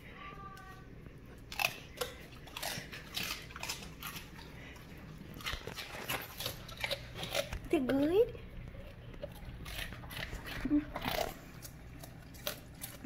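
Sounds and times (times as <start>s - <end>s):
dog crunching celery: 0.6s - 13.0s.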